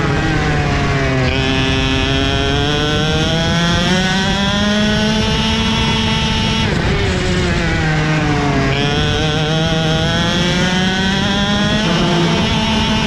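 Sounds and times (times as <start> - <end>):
kart engine revving: 0.0 - 13.0.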